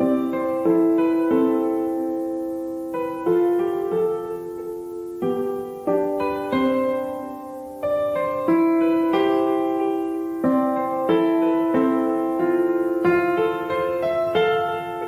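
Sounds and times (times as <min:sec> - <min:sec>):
gentle piano: 0:00.0 - 0:15.0.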